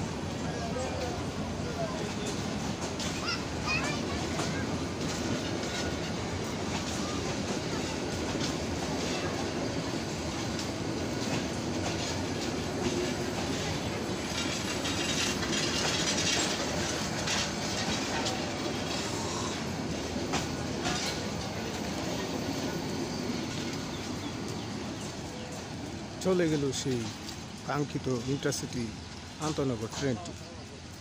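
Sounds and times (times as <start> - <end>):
train coaches rumbling past: 0.0 - 31.0
wheels clacking over rail joints: 0.0 - 31.0.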